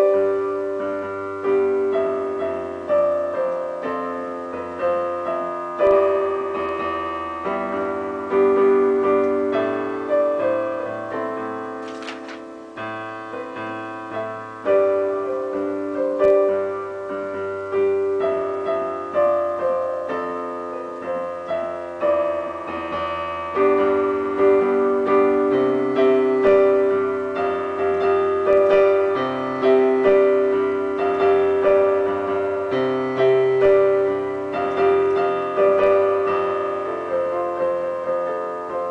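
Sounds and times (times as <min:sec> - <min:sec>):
digital piano playing: 0:00.0 - 0:38.9.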